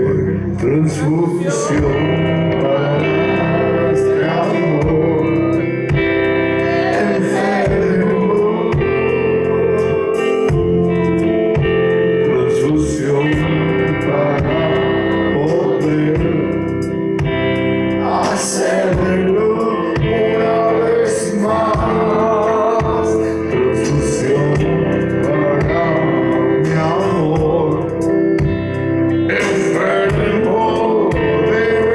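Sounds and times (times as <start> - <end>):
live rock band playing: 0.0 - 31.9.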